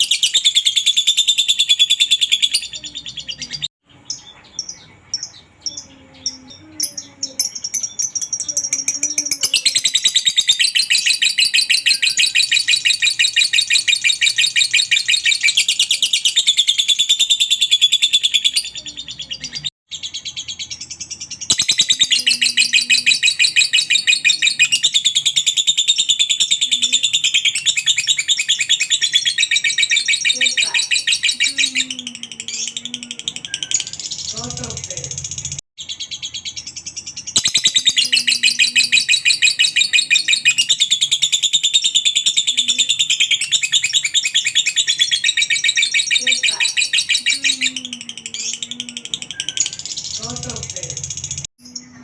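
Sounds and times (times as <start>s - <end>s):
lovebird rapid chattering: 3.4s - 52.0s.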